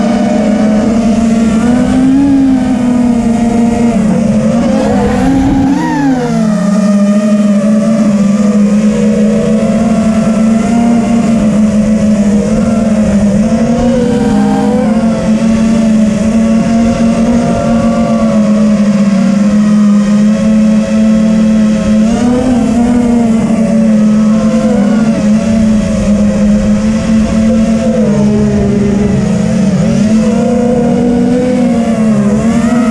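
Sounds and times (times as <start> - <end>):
quadcopter motors whining: 0.0 - 32.9.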